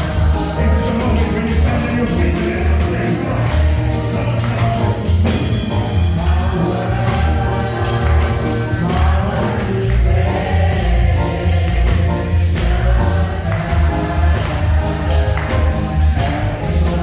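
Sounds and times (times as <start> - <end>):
bass and drums: 0.0 - 17.0
choir singing gospel: 0.0 - 17.0
tambourine shaken on the beat: 0.0 - 17.0.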